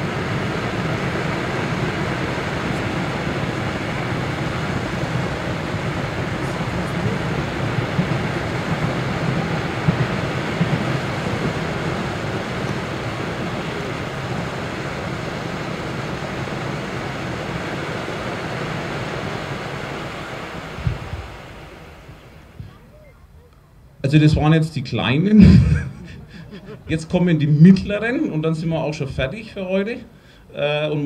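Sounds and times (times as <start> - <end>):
fireworks fountain hissing: 0.0 - 31.0.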